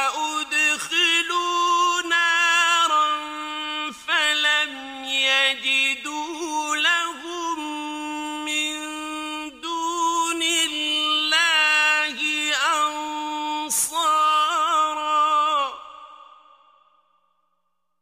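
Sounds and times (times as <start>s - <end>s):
man chanting: 0.0s - 16.9s.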